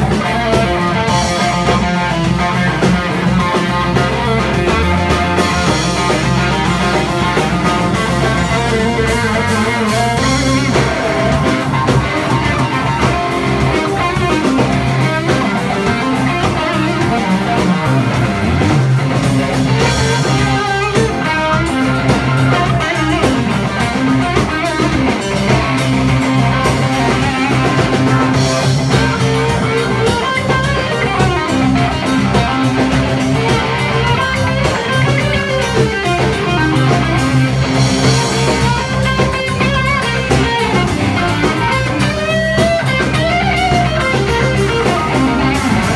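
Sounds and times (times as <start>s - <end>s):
bass guitar: 0.0s - 45.9s
drums: 0.0s - 45.9s
electric guitar: 0.0s - 45.9s.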